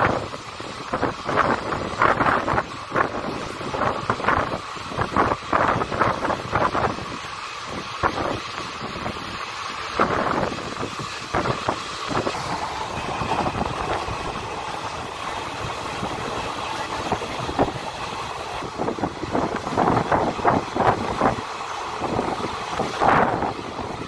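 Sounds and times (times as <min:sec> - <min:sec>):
rushing air: 0:00.0 - 0:24.0
train wheels on track: 0:00.0 - 0:24.0.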